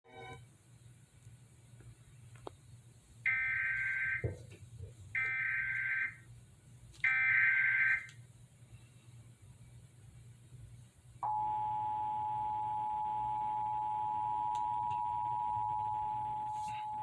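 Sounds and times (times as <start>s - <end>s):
faint low hum: 0.1s - 17.0s.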